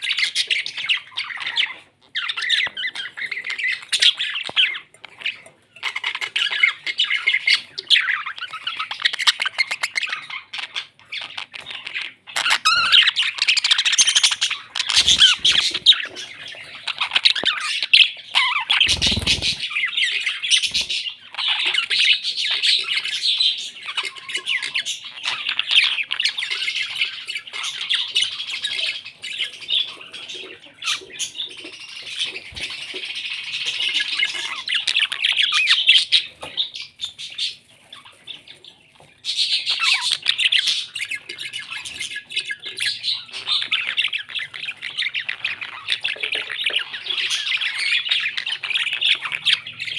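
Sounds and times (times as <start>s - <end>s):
parrots chattering and squawking: 0.0s - 49.9s.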